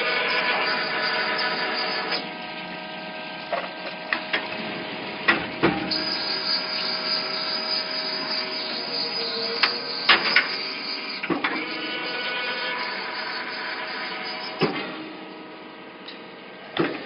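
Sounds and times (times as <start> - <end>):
machine mechanical whine: 0.0 - 15.6.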